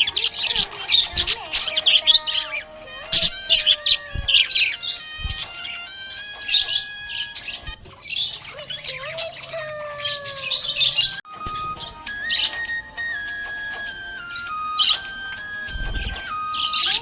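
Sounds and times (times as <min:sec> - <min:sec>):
background music with held notes: 0:00.0 - 0:08.4, 0:09.3 - 0:17.0
budgerigar chirping: 0:00.0 - 0:17.0.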